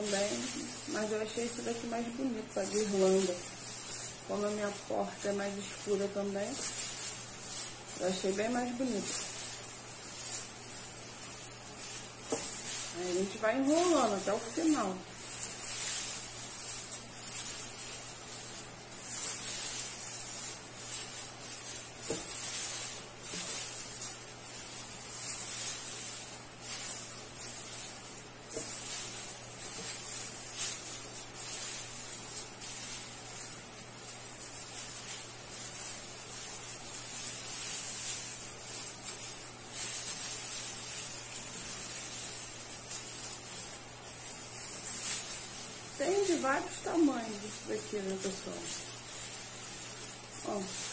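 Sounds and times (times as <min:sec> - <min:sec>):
plastic tinsel rustling: 0:00.0 - 0:50.9.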